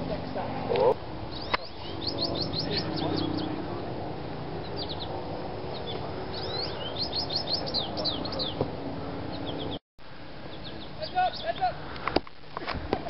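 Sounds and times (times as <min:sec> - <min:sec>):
songbird singing: 0:00.1 - 0:12.0.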